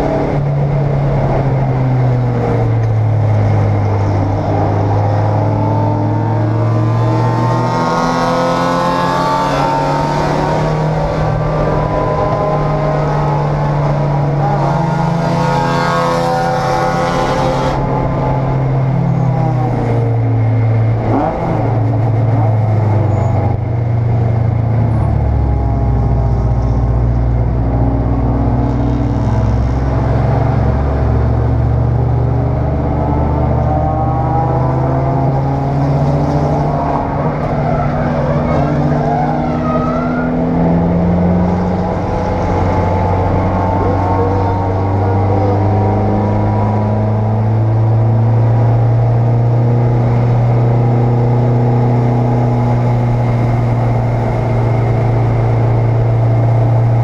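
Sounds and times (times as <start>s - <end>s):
race car engine from inside cabin: 0.0s - 57.0s.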